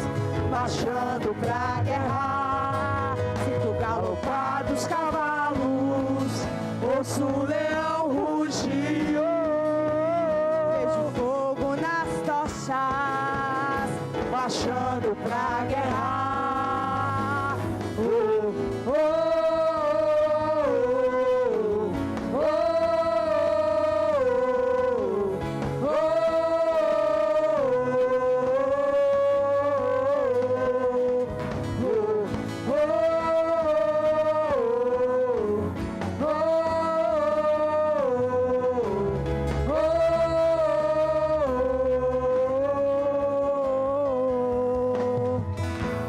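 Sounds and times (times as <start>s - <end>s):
band accompaniment: 0.0s - 46.0s
person singing wordless notes: 0.0s - 46.0s
slow church worship melody: 0.0s - 46.0s.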